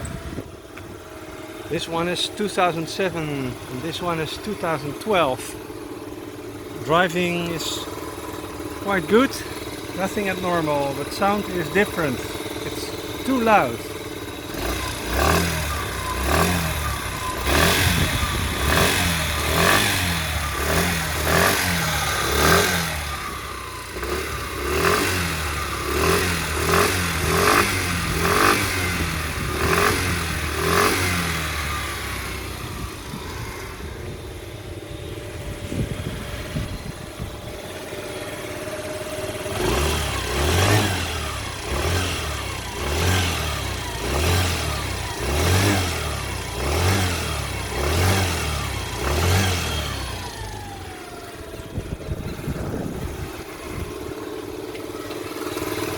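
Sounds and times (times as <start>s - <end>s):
scooter engine revving: 0.0s - 55.9s.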